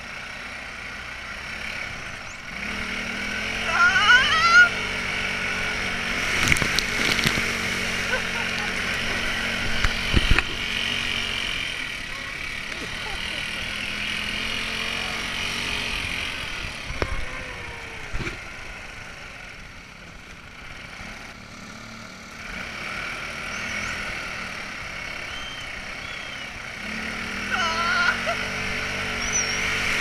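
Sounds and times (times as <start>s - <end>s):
buggy engine running: 0.0s - 30.0s.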